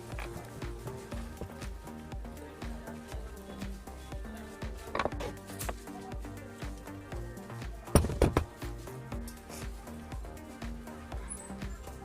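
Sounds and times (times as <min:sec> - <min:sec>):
background music with low beat: 0:00.0 - 0:12.0.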